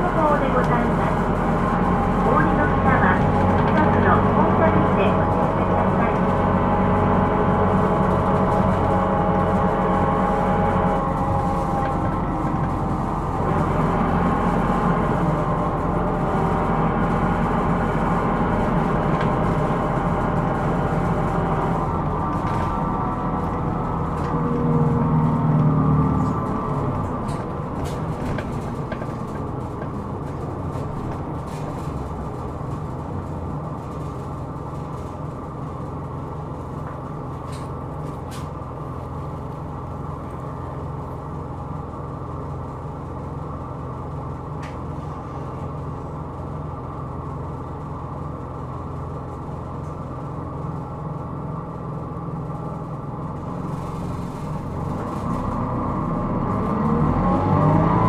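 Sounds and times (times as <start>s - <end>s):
road noise: 0.0s - 47.2s, 52.5s - 58.0s
diesel bus engine: 0.0s - 58.0s.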